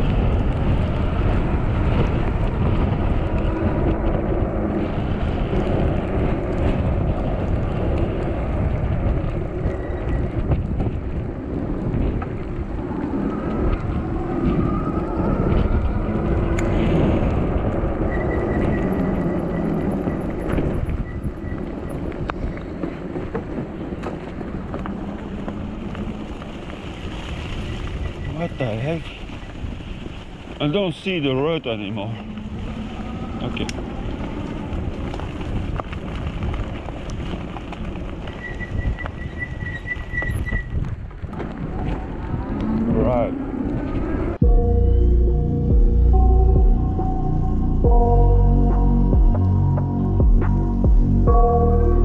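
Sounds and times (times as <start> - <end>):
tyres rumbling on wet road: 0.0 - 44.4
wind buffeting microphone: 0.0 - 52.0.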